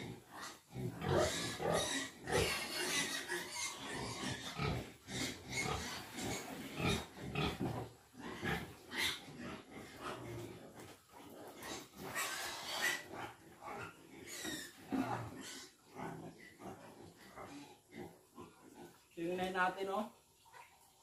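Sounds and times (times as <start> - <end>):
pig grunting: 0.0 - 19.0.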